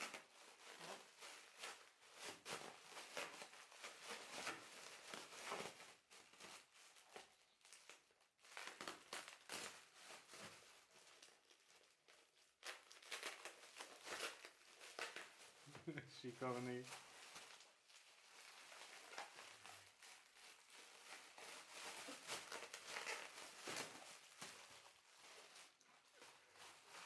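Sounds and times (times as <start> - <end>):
packaging crinkling: 0.0 - 27.0.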